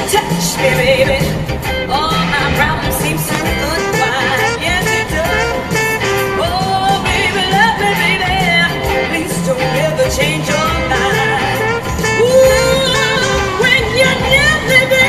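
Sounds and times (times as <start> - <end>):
repeating bass line: 0.0 - 15.0
song with singing voice: 0.0 - 15.0.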